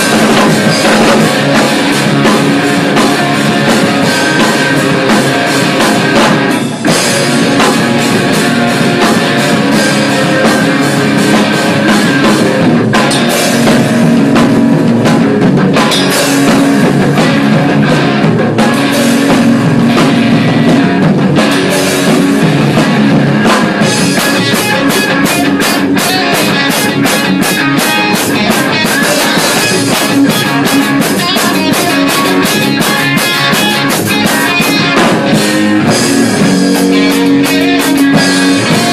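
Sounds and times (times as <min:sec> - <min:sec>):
rock band playing loud: 0:00.0 - 0:38.9.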